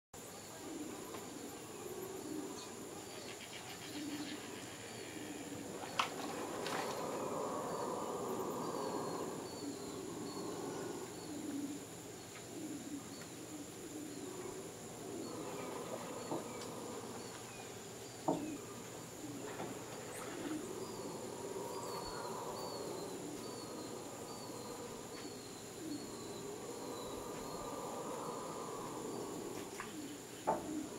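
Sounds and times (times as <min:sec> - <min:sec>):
high insect whine: 0:00.2 - 0:30.9
howler monkeys roaring: 0:00.4 - 0:30.9.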